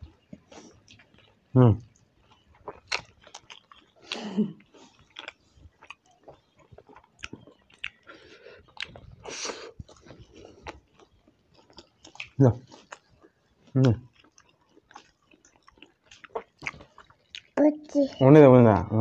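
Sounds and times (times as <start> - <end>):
people chewing food: 0.0 - 19.0.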